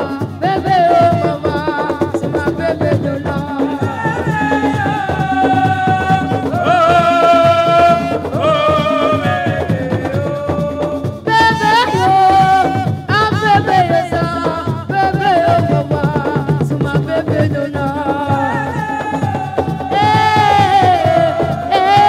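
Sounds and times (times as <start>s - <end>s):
busy drum rhythm: 0.0s - 22.0s.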